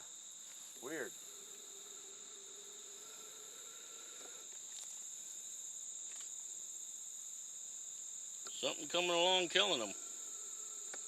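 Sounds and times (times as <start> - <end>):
crickets trilling: 0.0 - 11.0
faint steady hum: 0.0 - 11.0.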